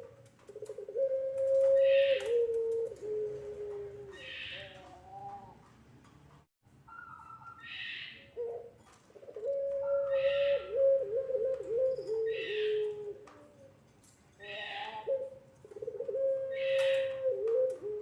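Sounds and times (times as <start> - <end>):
dove cooing: 0.0 - 5.7, 6.9 - 13.8, 14.4 - 18.0.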